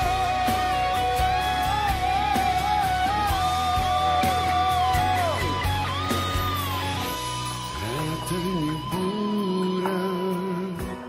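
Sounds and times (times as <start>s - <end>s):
guitar note with vibrato: 0.0s - 10.8s
bass line: 0.0s - 11.0s.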